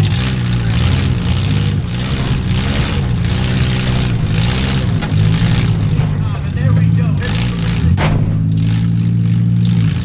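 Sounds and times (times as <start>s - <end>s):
car engines revving hard: 0.0s - 10.0s.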